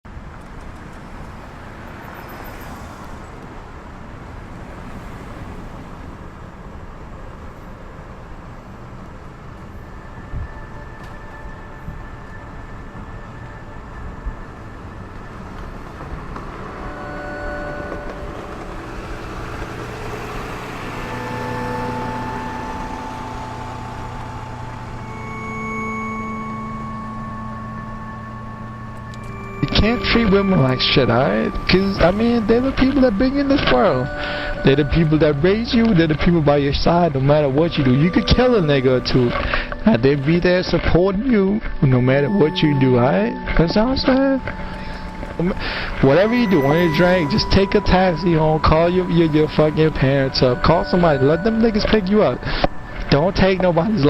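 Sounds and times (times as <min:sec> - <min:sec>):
street traffic: 0:00.0 - 0:54.0
held electronic tones: 0:09.8 - 0:54.0.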